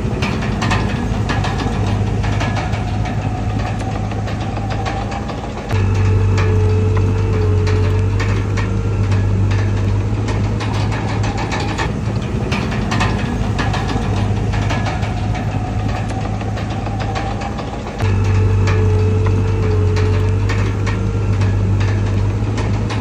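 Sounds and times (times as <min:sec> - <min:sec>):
diesel machine humming: 0:00.0 - 0:23.0
metallic clanks and rattles: 0:00.0 - 0:23.0.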